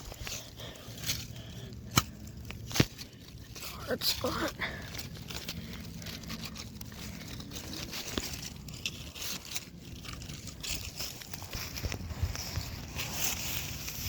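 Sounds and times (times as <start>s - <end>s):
stake crunching into hard ground: 0.0s - 14.0s.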